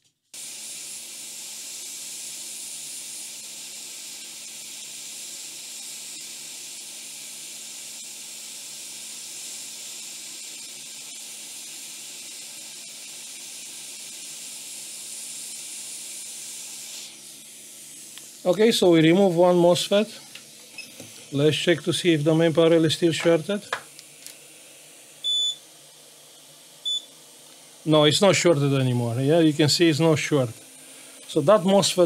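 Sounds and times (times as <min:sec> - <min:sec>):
hot air blower hissing: 0:00.3 - 0:32.0.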